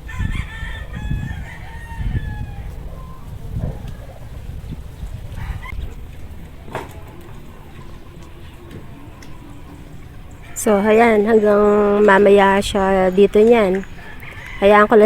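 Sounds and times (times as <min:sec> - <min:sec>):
low thumps: 0:00.0 - 0:14.0
rooster crowing: 0:00.0 - 0:15.0.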